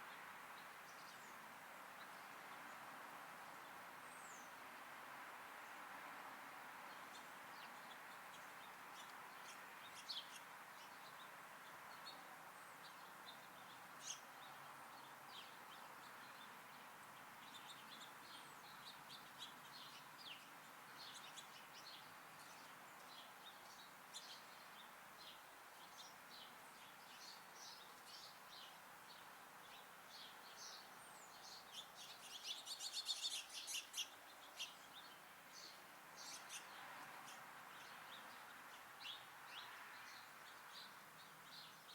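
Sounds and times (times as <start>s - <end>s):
songbirds chirping: 0.0s - 41.9s
steady background hiss: 0.0s - 41.9s.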